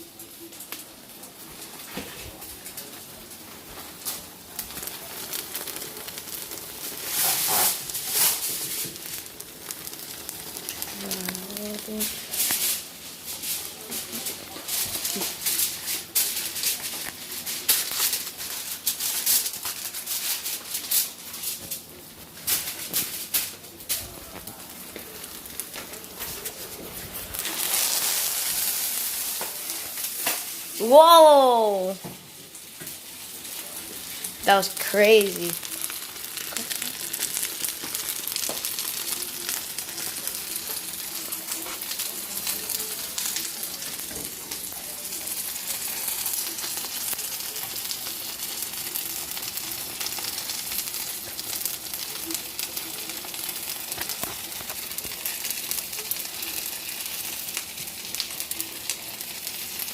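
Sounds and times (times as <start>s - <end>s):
pancakes sizzling in oil: 0.0s - 59.9s.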